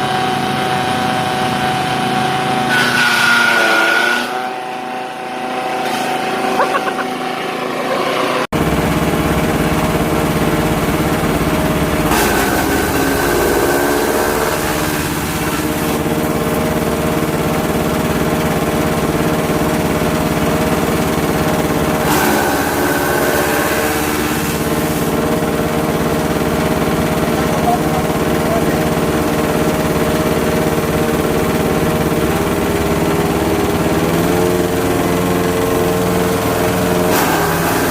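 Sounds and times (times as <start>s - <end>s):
forage cutter engine running: 0.0s - 37.9s.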